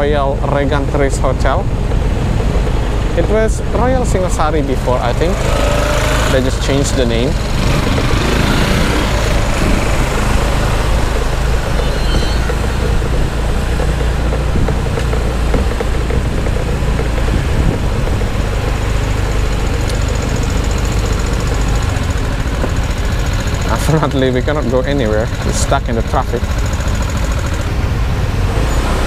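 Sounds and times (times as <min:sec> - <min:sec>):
motorcycle engine idling: 0:00.0 - 0:28.6
surrounding vehicle engines: 0:00.0 - 0:29.0.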